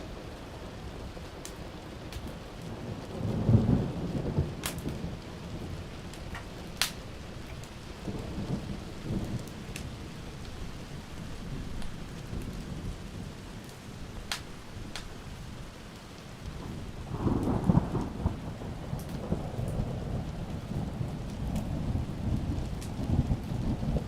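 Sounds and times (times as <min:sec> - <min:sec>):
heavy rain: 0:00.0 - 0:24.0
wood fire crackling pops: 0:01.2 - 0:12.7, 0:13.6 - 0:24.0
thunder rumbling: 0:01.8 - 0:24.0.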